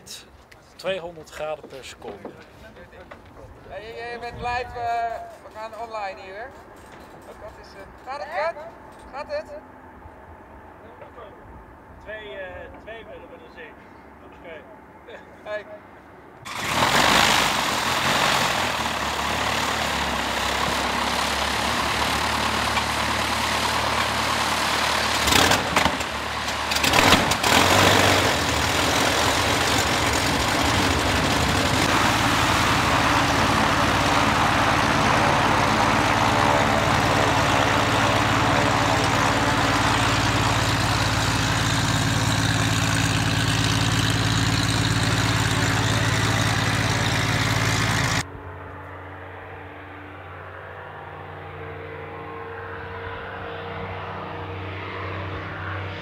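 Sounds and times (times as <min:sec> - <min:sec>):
propeller plane engine droning: 0:03.1 - 0:56.0.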